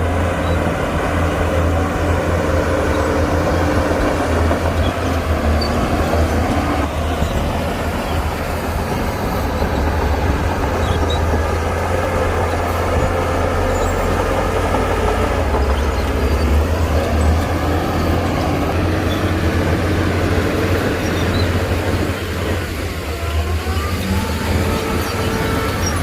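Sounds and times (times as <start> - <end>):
diesel machinery engine drone: 0.0 - 26.0.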